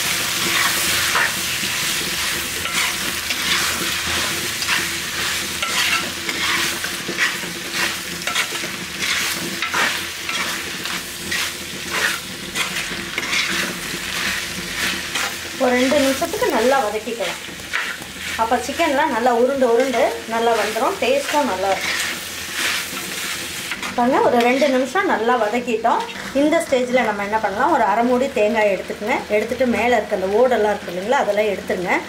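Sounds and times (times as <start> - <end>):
spatula scraping pan: 0.0 - 27.0
chicken sizzling in hot oil: 0.0 - 32.0.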